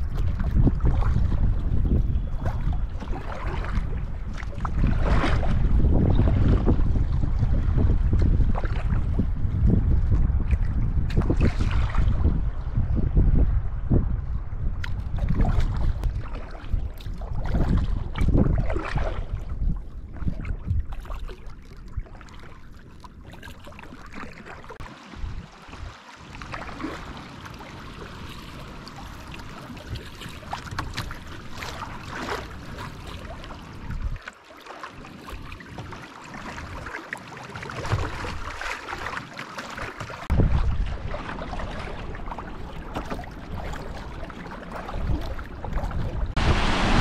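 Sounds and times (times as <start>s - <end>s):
water splashing against kayak hull: 0.0s - 12.6s, 14.6s - 47.0s
wind buffeting microphone: 0.0s - 34.3s, 37.6s - 38.7s, 40.0s - 47.0s.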